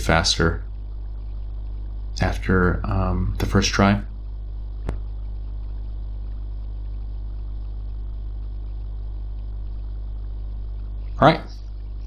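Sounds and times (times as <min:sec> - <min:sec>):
low electrical hum: 0:00.0 - 0:12.0
microphone hiss: 0:00.0 - 0:12.0.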